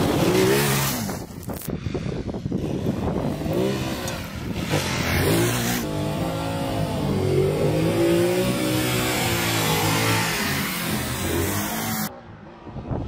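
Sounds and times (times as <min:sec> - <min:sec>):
motorcycle engine revving: 0:00.0 - 0:01.7, 0:02.5 - 0:12.1.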